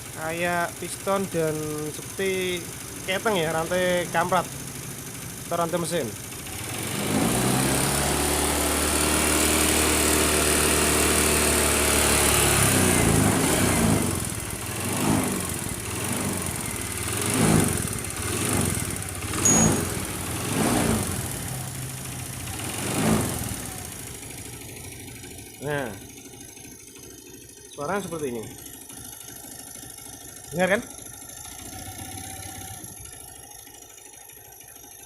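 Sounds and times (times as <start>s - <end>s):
scooter engine idling and revving: 0.0s - 35.0s.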